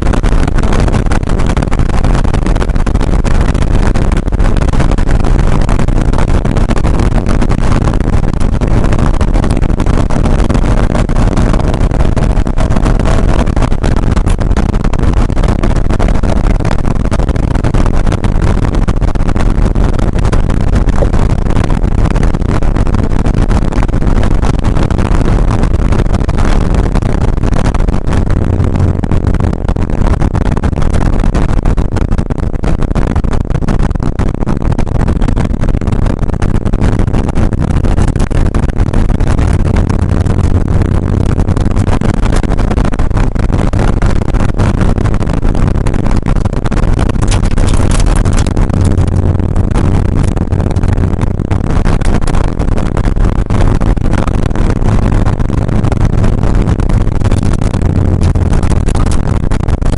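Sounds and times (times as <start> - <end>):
car engine running hard: 0.0 - 31.1, 36.6 - 59.9
road and wind noise: 0.0 - 59.9.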